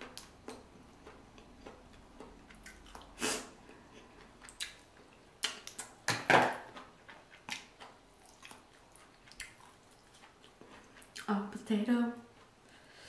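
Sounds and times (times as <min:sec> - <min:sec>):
crunching and chewing seafood: 0:00.1 - 0:06.0, 0:06.6 - 0:11.3.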